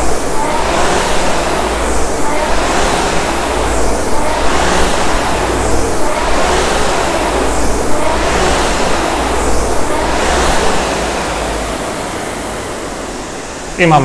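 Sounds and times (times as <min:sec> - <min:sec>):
rowing machine flywheel whooshing: 0:00.0 - 0:14.0.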